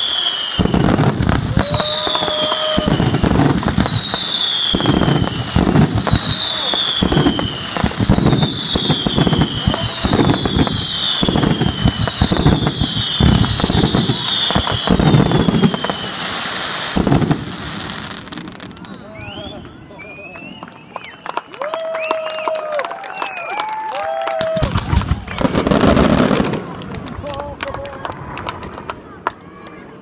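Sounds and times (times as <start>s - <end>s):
fireworks crackling and banging: 0.0s - 22.0s, 23.7s - 29.4s
falling firework whistles: 0.0s - 26.4s.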